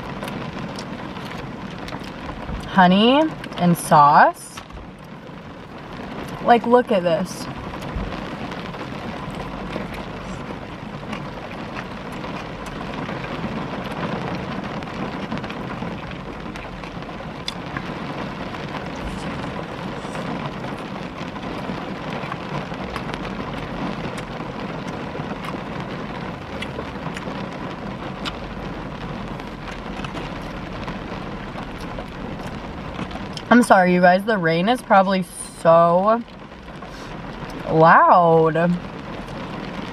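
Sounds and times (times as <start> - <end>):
rain on car roof: 0.0 - 39.9
raindrop ticks: 0.0 - 39.9.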